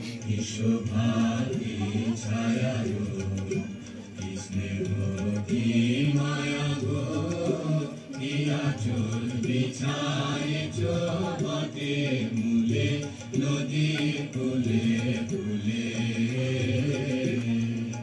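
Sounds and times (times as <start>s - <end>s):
slow chant-like singing: 0.0s - 18.0s.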